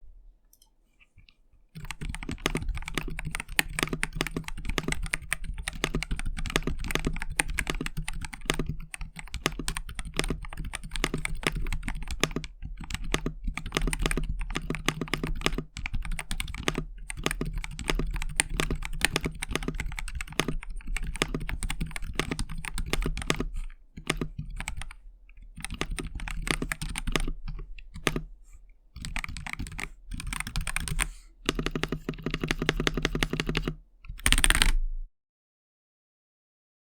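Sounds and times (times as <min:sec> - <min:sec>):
fast typing on mechanical keyboard: 0:01.8 - 0:28.3, 0:29.0 - 0:34.8.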